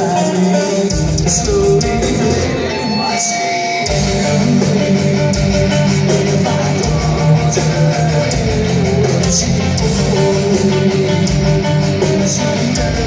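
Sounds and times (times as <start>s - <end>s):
live metal band playing: 0.0s - 13.0s.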